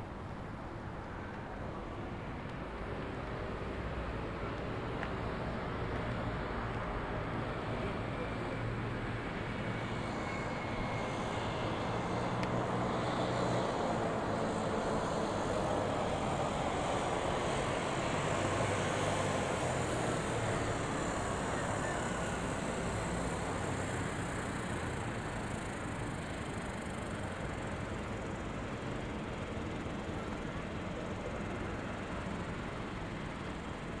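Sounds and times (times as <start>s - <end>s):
distant engine and traffic noise: 0.0s - 34.0s.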